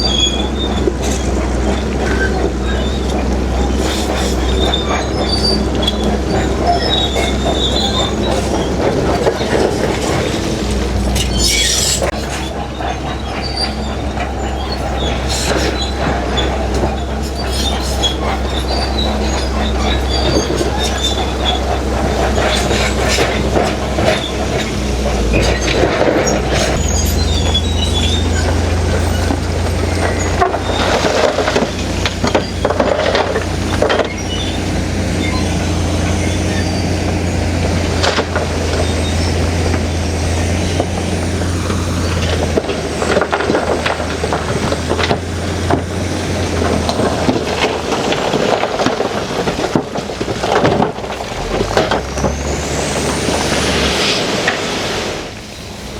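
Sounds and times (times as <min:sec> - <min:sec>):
diesel engine under load: 0:00.0 - 0:55.9
steel tracks squealing and clanking: 0:00.0 - 0:55.9.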